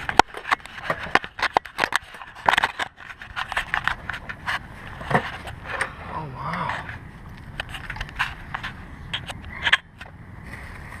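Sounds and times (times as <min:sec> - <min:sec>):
rustling of dry leaves and twigs: 0:00.0 - 0:11.0.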